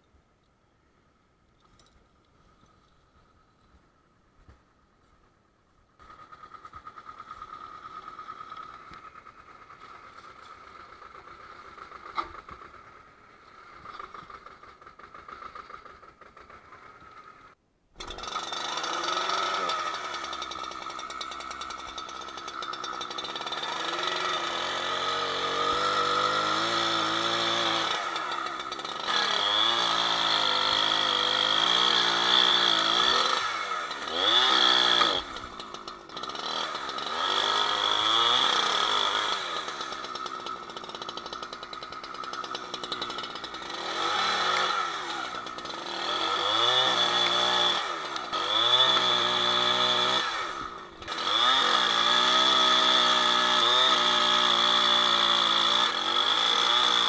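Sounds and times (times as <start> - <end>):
chainsaw revving: 6.0 - 57.0.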